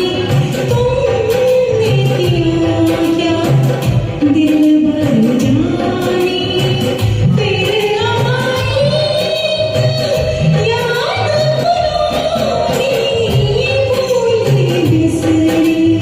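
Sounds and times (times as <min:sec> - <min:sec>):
instrumental accompaniment: 0:00.0 - 0:16.0
steady percussion beat: 0:00.0 - 0:16.0
woman singing: 0:00.0 - 0:16.0.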